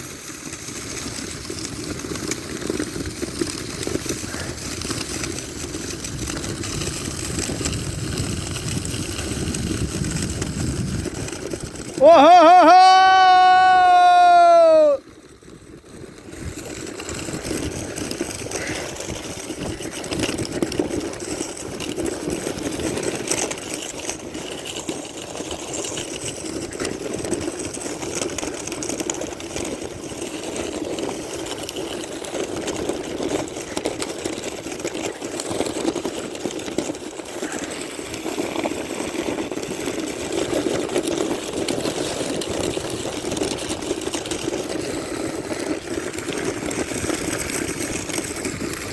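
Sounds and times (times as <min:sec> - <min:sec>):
sled runners scraping on snow: 0:00.0 - 0:48.9.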